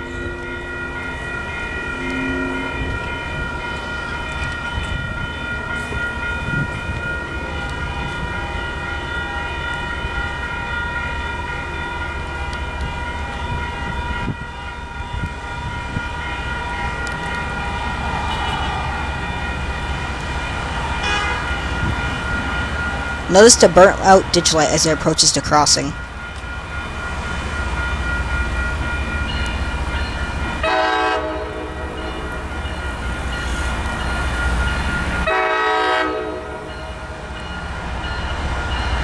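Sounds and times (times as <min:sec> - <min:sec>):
crossing bell ringing: 0:00.0 - 0:39.0.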